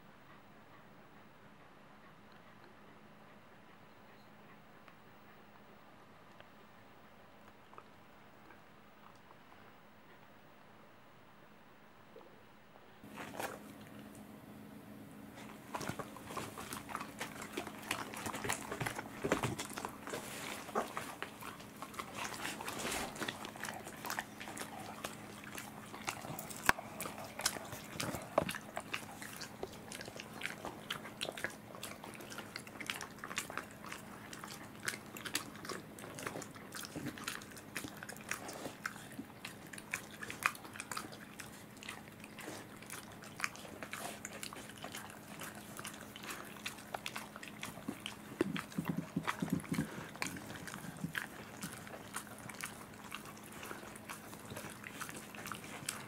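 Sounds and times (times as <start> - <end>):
faint steady hum: 0.0 - 56.0
dogs chewing with sharp clicks: 0.3 - 5.4, 15.3 - 56.0.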